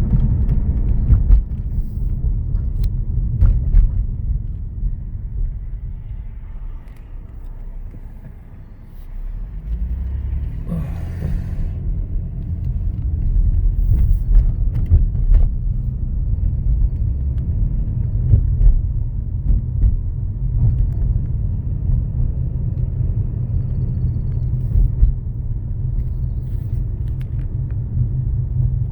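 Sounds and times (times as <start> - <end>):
car rumble while moving: 0.0 - 28.9.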